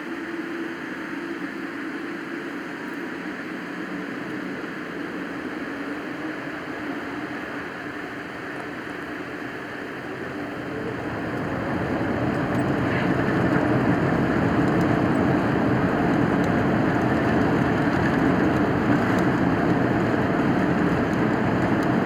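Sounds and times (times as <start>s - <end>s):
jet engines spooling up in cabin: 0.0s - 22.0s.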